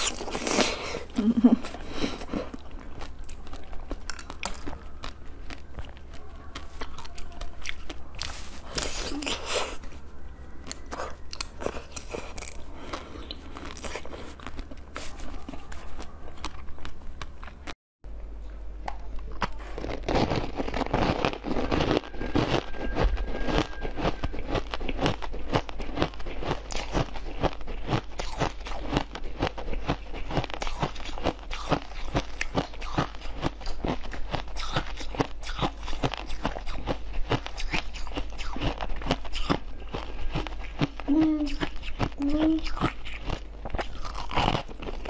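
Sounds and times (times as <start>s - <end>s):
chewing frozen jelly crunches: 0.0s - 17.8s, 18.4s - 45.0s.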